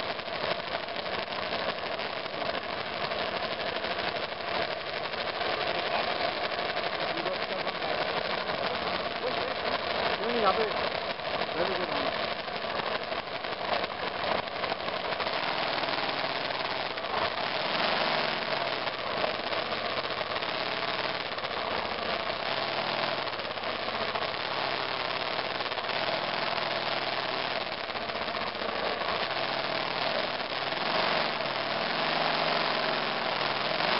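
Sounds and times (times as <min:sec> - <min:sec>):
motorcycle engine running: 0:00.0 - 0:33.9
steady rushing noise: 0:00.0 - 0:33.9.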